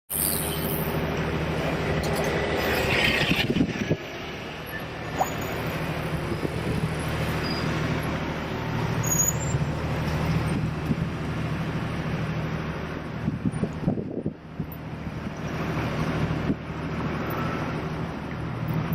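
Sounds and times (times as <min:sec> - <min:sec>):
large engine humming: 0:00.1 - 0:18.9
street traffic: 0:00.1 - 0:18.9.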